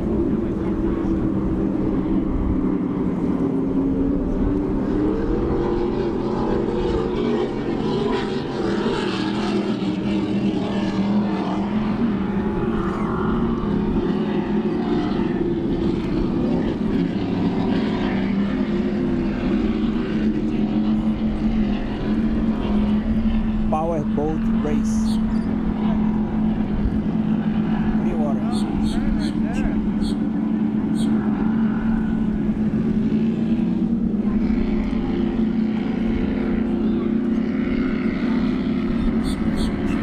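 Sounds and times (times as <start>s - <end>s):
powerboat engines droning: 0.0s - 40.0s.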